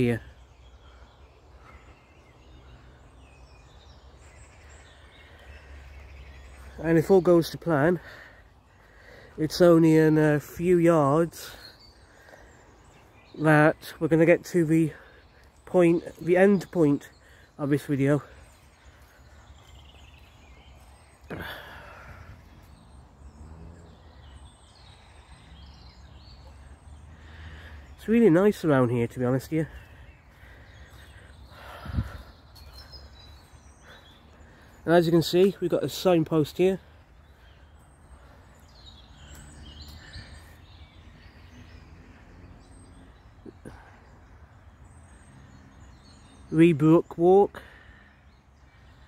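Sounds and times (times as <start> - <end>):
faint bird calls: 0.0 - 49.0.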